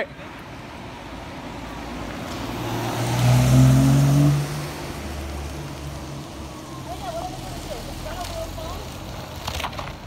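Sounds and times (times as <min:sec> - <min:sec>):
car passing on wet road: 0:00.4 - 0:10.0.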